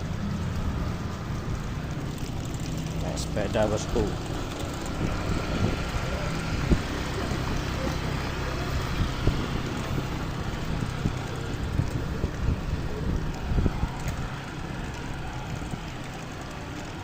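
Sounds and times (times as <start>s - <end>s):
street traffic engines: 0.0s - 17.0s
wind buffeting microphone: 0.0s - 17.0s.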